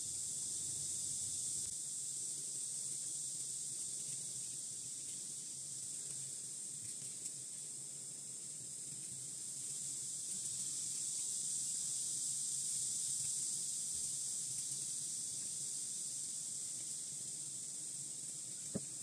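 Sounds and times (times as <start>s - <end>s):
high-pitched background hiss: 0.0s - 19.0s.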